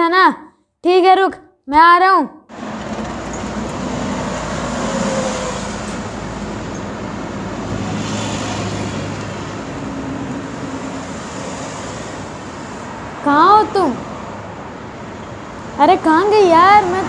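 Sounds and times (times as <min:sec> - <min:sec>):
road traffic rumble: 0:02.5 - 0:17.0.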